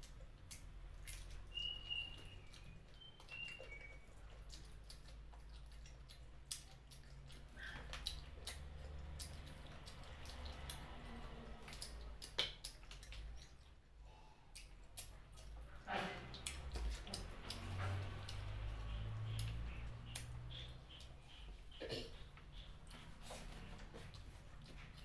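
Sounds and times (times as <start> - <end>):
wet chewing and sucking: 0.0 - 25.0.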